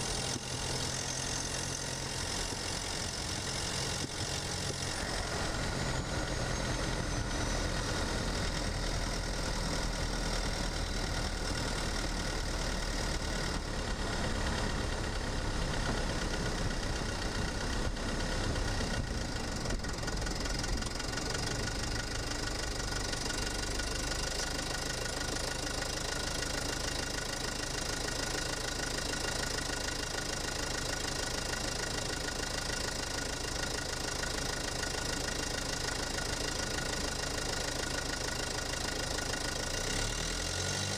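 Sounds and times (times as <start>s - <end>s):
diesel engine clatter: 0.0s - 40.9s
faint engine whines: 0.0s - 40.9s.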